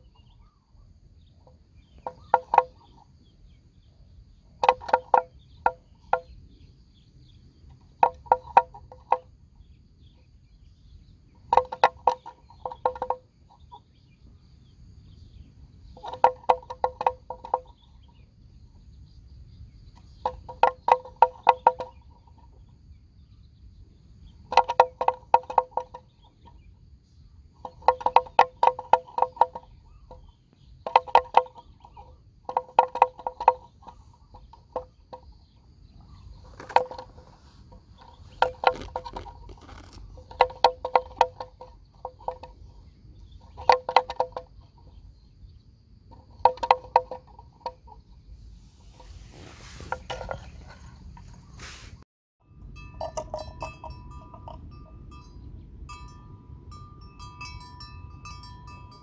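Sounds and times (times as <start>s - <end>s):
rapid pulsed animal calls: 0.0s - 6.8s, 10.9s - 51.9s.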